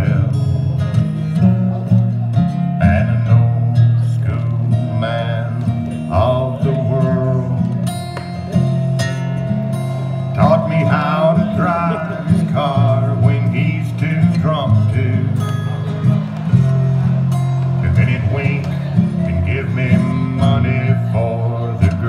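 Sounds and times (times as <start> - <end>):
acoustic guitars playing: 0.0 - 22.0.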